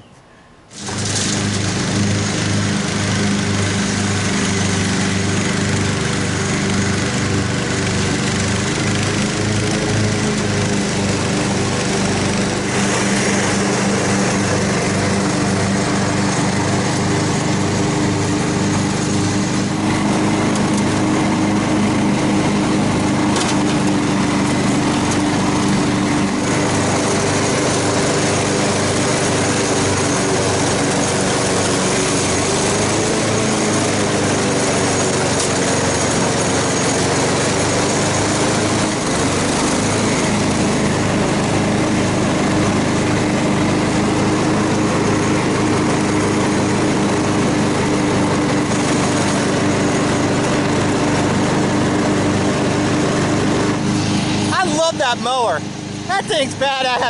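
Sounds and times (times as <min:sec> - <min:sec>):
riding lawn mower engine: 0:00.7 - 0:57.0.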